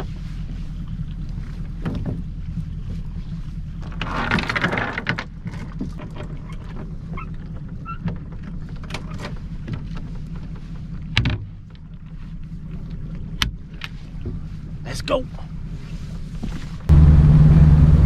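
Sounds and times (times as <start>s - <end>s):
steady low hum: 0.0s - 4.6s, 6.8s - 18.0s.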